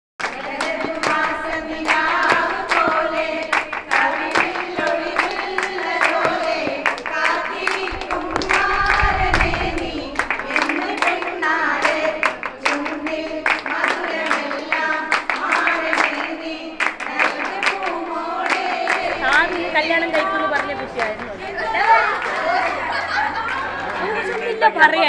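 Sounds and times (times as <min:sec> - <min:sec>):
hands clapping in rhythm: 0:00.2 - 0:21.3
women singing together: 0:00.2 - 0:25.0.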